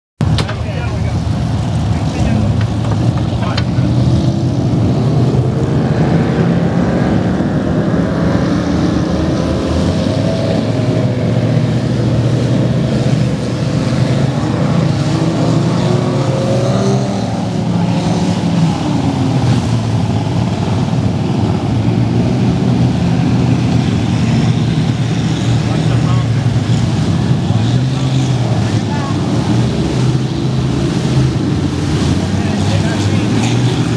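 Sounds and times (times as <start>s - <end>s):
powerboat engines droning: 0.2s - 33.9s
rushing wind and water: 0.2s - 33.9s.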